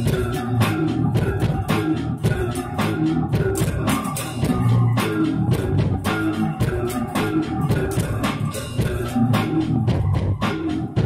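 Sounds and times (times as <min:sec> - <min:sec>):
funky electric bass line: 0:00.0 - 0:11.0
steady drum beat: 0:00.0 - 0:11.0.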